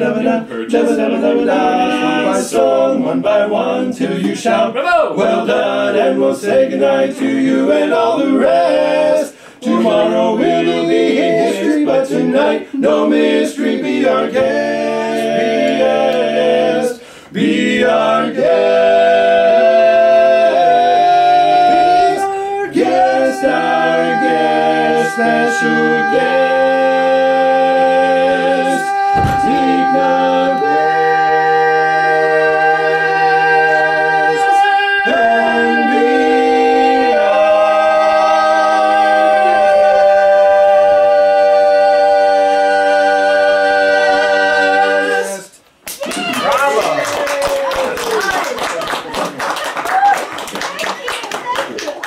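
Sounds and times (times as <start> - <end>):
male quartet singing a cappella: 0.0 - 45.6.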